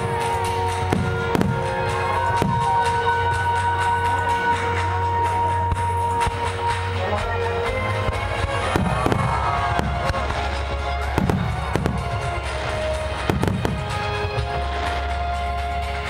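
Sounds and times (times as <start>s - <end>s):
background music: 0.0s - 16.0s
fireworks booming and crackling: 0.0s - 16.0s.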